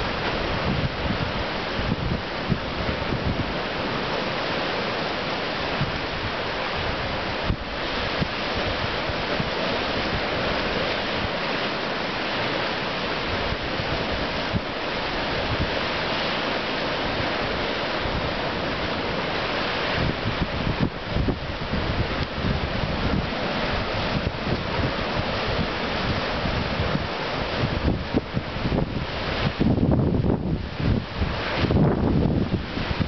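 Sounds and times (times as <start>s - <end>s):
wind buffeting microphone: 0.0s - 4.1s, 5.7s - 11.4s, 13.1s - 16.2s, 16.8s - 33.0s
surf rushing through rocks: 0.0s - 33.0s.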